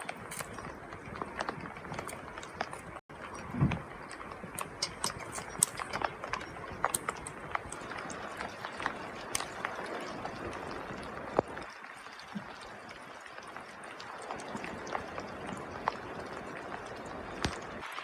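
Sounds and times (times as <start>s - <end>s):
raindrops tapping: 0.0s - 18.0s
steady rain hiss: 0.0s - 18.0s.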